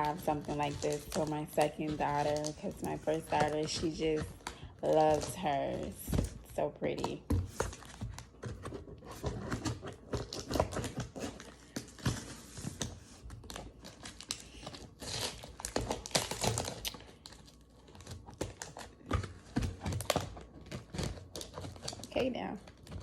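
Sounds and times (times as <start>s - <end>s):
packing tape tearing off cardboard: 0.0s - 23.0s.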